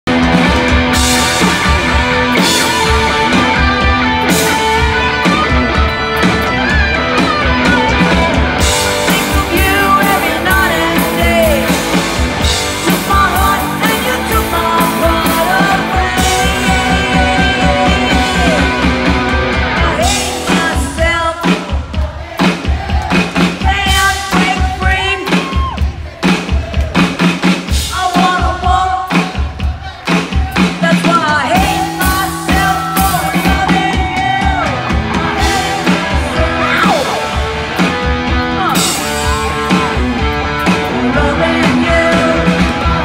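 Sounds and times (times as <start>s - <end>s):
bass guitar: 0.0s - 43.0s
distorted electric guitars: 0.0s - 43.0s
steady drum beat: 0.1s - 43.0s
woman singing lead: 6.7s - 27.1s, 27.7s - 37.4s, 38.0s - 43.0s.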